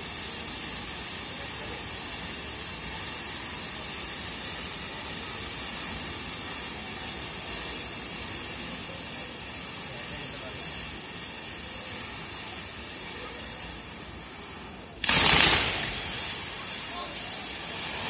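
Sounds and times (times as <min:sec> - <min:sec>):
fountain fireworks hissing: 0:00.0 - 0:18.0.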